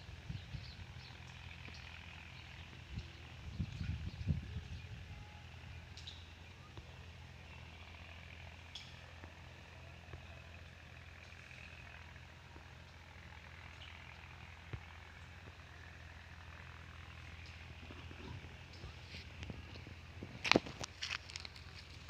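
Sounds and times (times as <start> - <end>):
small stationary engine running: 0.0 - 22.0.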